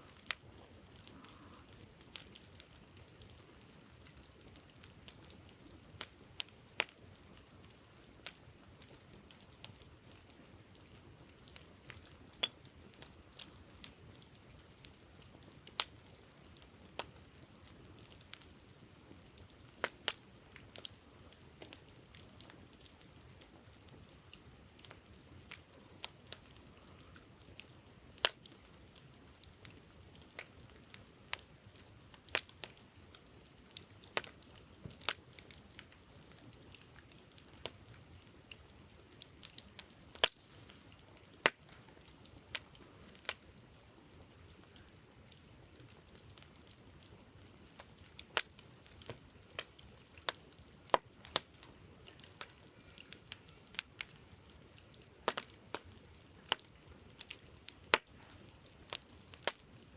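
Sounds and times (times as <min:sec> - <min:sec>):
faint steady hiss: 0:00.0 - 0:59.9
wood campfire crackling: 0:00.0 - 0:59.9.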